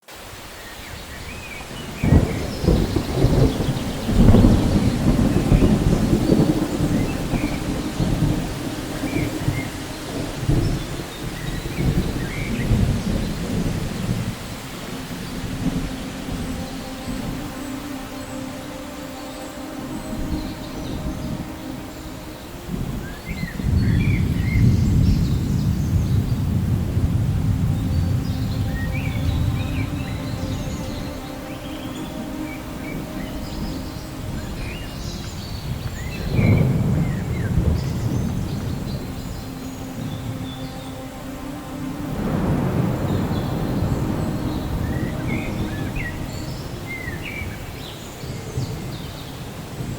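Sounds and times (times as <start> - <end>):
steady rain: 0.0 - 49.9
thunder clap and rumble: 1.6 - 18.6, 19.7 - 49.9.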